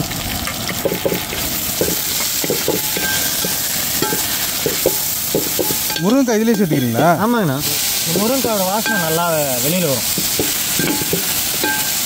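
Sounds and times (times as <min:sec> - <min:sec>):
frying sizzling in hot oil: 0:00.0 - 0:12.0
metal ladle scraping pan: 0:00.4 - 0:07.0, 0:07.7 - 0:12.0.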